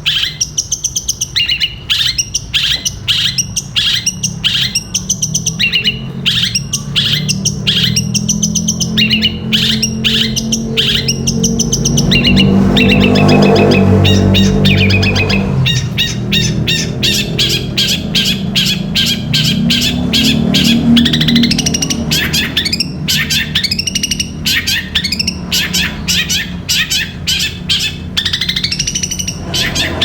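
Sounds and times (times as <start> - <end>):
bird singing sharp chirps: 0.0 - 30.0.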